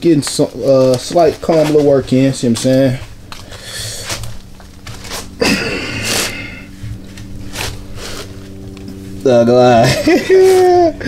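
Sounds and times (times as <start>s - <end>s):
shipping labels peeling: 0.0s - 9.1s, 9.8s - 11.0s
plastic mailer bags rustling: 0.0s - 10.9s
low steady hum: 0.0s - 11.0s.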